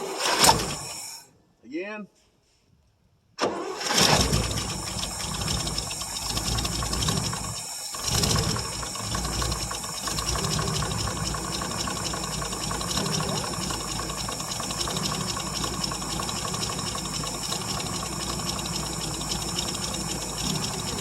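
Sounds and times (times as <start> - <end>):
pickup truck engine running: 4.0 - 21.0.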